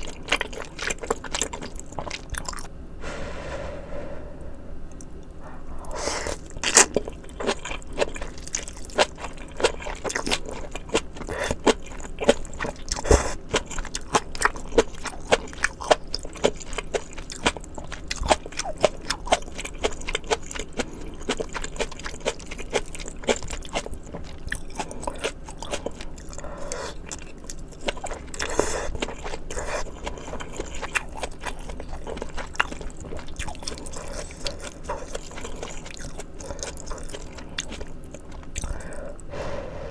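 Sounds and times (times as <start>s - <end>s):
close chewing and crunching: 0.0s - 2.7s, 5.0s - 39.6s.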